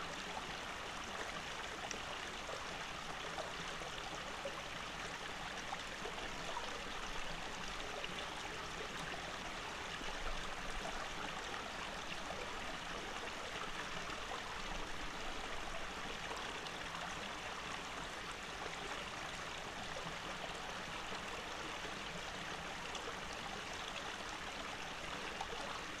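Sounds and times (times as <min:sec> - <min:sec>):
stream running over stones: 0:00.0 - 0:26.0.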